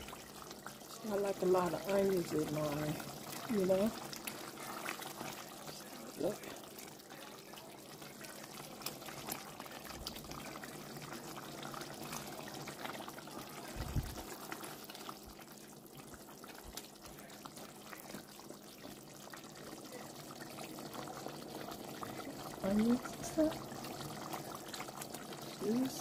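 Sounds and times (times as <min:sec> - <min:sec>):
sauce bubbling in a pot: 0:00.0 - 0:26.0.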